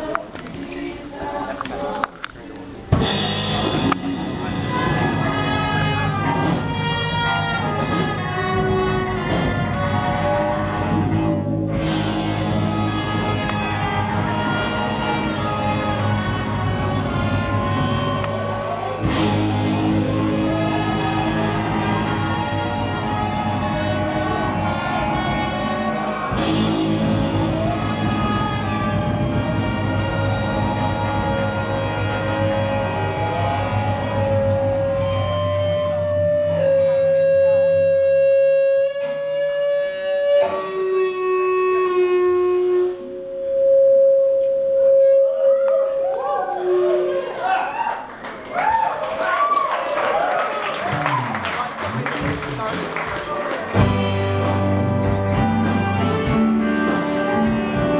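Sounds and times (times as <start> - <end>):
live band playing rock music: 1.8 - 43.8, 50.8 - 57.9.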